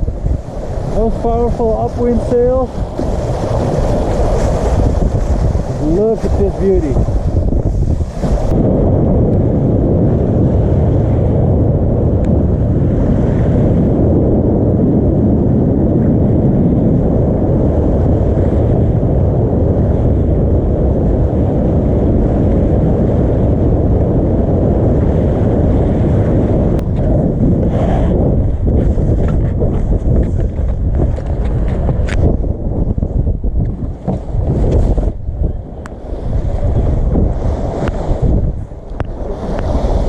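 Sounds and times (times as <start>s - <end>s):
water rushing along hull: 0.0s - 40.0s
wind buffeting microphone: 0.0s - 40.0s.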